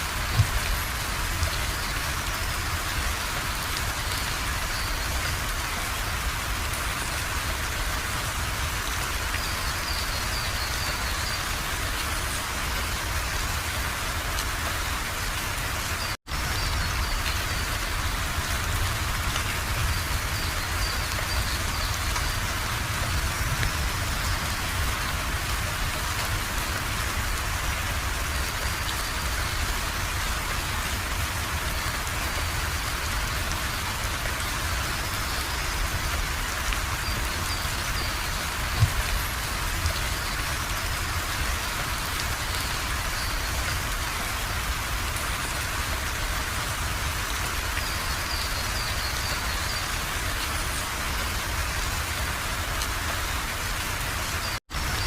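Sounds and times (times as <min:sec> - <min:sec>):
rain falling on a surface: 0:00.0 - 0:55.0.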